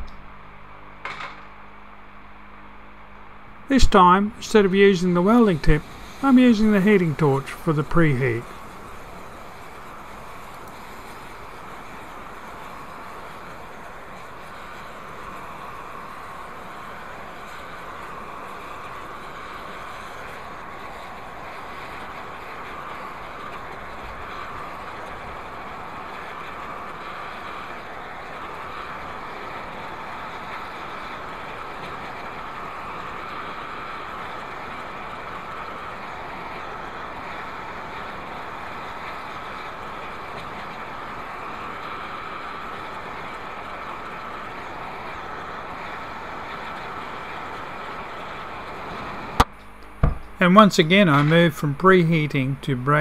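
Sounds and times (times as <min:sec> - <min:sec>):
torch hissing: 0:03.7 - 0:53.0.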